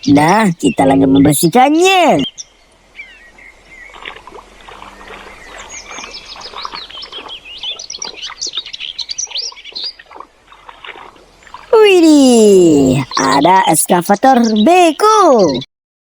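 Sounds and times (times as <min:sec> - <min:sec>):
small birds chirping: 0:00.0 - 0:10.3, 0:10.9 - 0:15.7.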